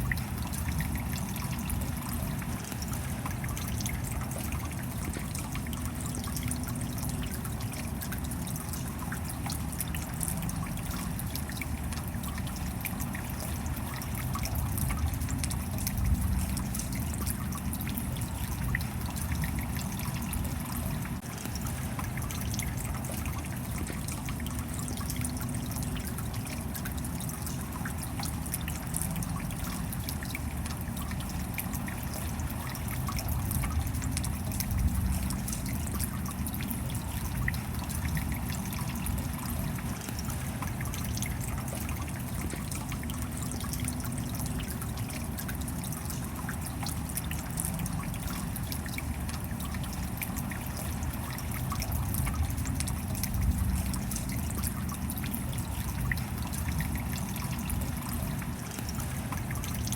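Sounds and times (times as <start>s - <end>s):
rain drops tapping: 0.0s - 59.9s.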